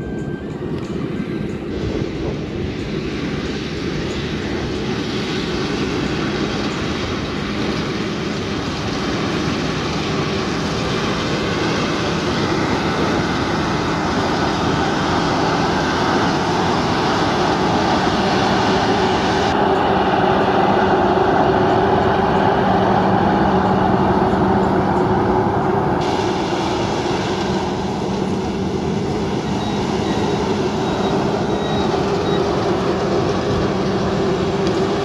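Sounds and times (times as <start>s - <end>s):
harvester engine hum: 0.0s - 35.0s.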